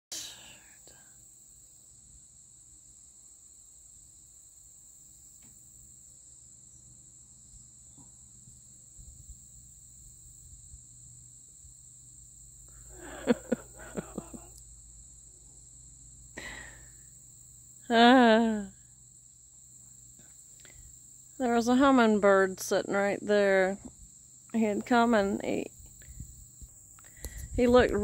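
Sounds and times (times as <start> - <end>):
insects droning: 0.2 - 28.0.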